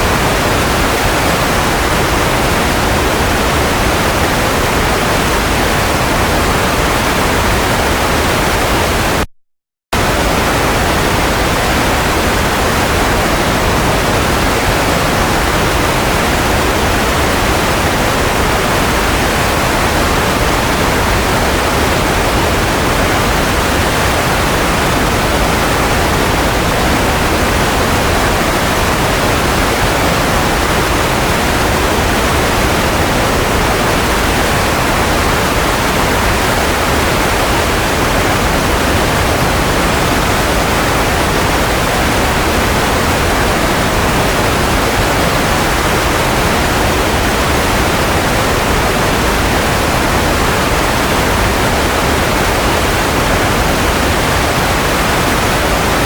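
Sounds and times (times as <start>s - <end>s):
white noise hiss: 0.0s - 9.2s, 10.0s - 56.0s.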